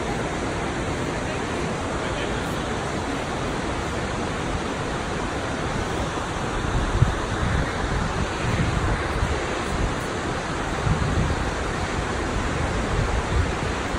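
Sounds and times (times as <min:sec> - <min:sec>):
waterfall rushing: 0:00.0 - 0:13.9
wind gust on microphone: 0:00.0 - 0:13.9.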